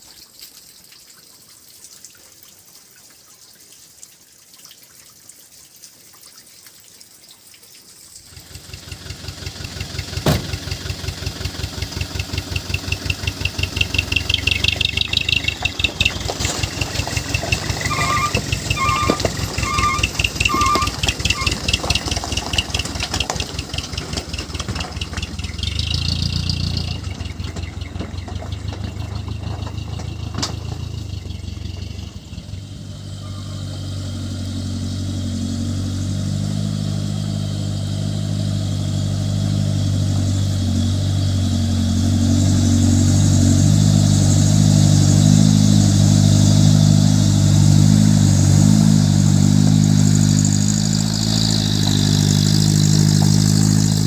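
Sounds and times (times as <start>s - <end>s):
dump truck diesel engine revving: 8.4s - 54.0s.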